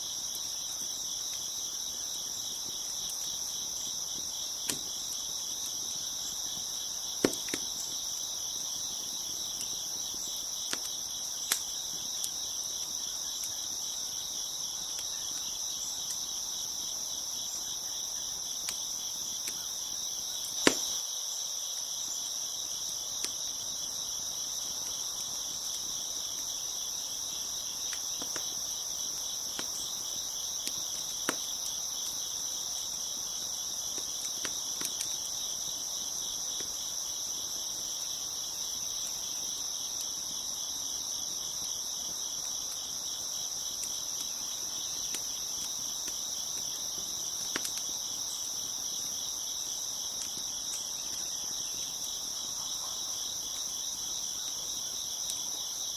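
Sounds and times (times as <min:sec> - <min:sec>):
wood fire popping and crackling: 0:00.0 - 0:21.1, 0:22.2 - 0:52.4
crickets chirping: 0:00.0 - 0:55.9.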